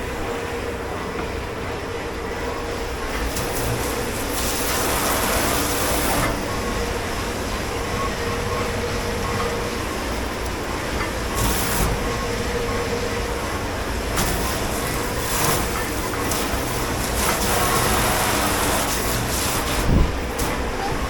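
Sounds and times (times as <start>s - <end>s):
dishwashing machinery humming: 0.0s - 21.0s.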